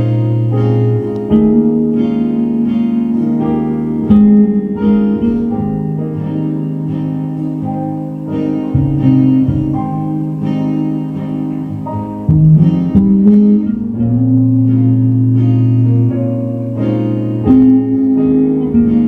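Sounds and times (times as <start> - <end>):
bass line: 0.0 - 7.6, 8.3 - 19.0
plucked guitar: 0.0 - 19.0.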